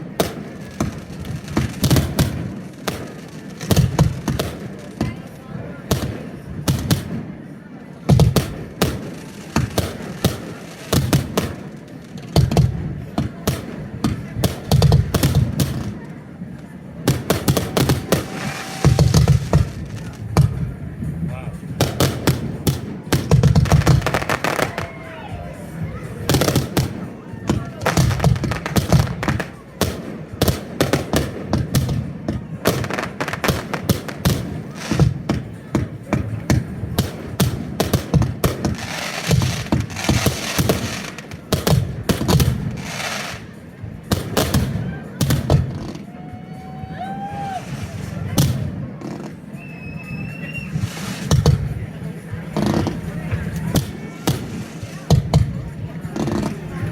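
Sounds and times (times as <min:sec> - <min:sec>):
fireworks bursting: 0:00.0 - 0:46.2, 0:47.1 - 0:56.9
deep firework thuds: 0:00.1 - 0:16.0, 0:17.0 - 0:24.9, 0:26.1 - 0:46.1, 0:47.8 - 0:49.4, 0:50.6 - 0:56.9.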